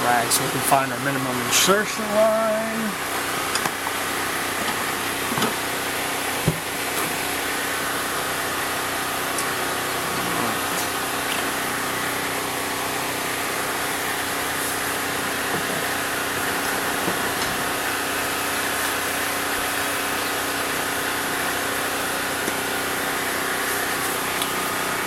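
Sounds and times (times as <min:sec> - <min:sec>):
engine-like drone: 0:00.0 - 0:25.0.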